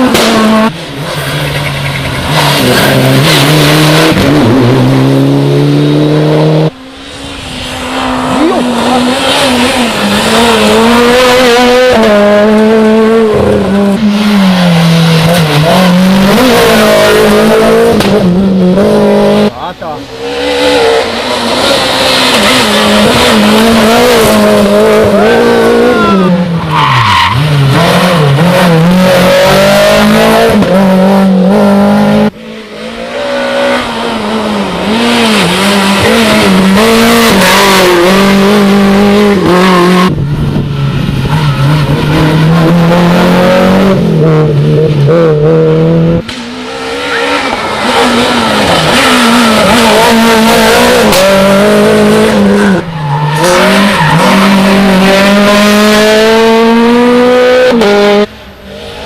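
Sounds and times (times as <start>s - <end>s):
rally car engines at full throttle: 0.0s - 59.0s.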